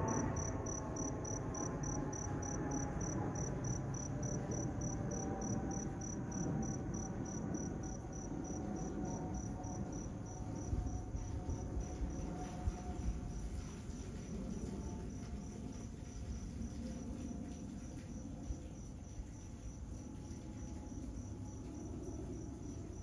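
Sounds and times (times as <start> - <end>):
faint engine whine: 0.0 - 18.7
jet engines rumbling overhead: 0.0 - 19.0
cricket chirping: 0.0 - 23.0.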